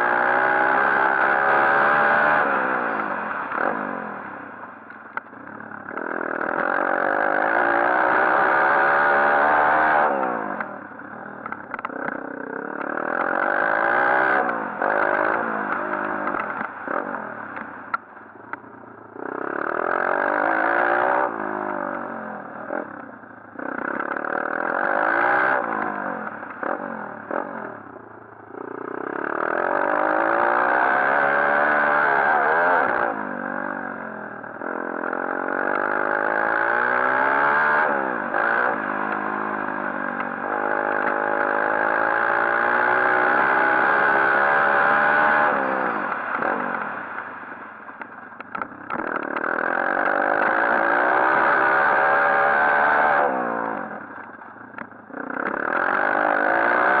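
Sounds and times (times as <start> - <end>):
clatter: 0.0 - 57.0
pit bike engine revving: 0.0 - 57.0.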